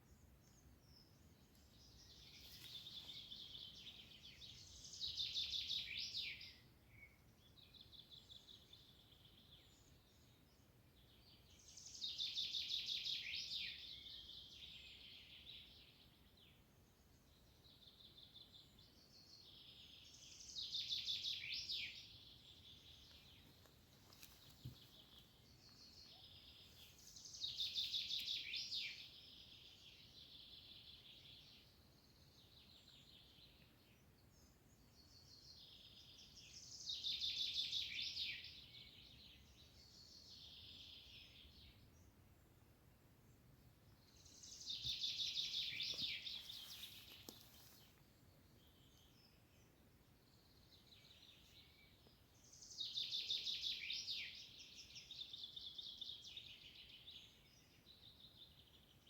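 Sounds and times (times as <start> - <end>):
faint outdoor background noise: 0.0 - 59.0
songbird singing: 0.0 - 59.0.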